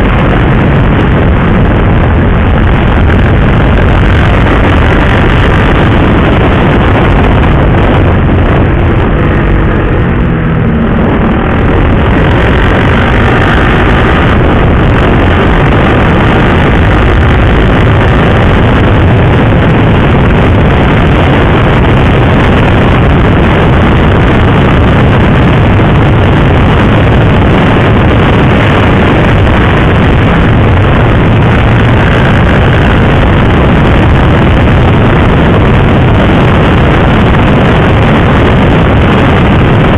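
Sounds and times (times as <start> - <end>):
motorcycle engine running: 0.0 - 39.9
wind rushing on microphone: 0.0 - 39.9.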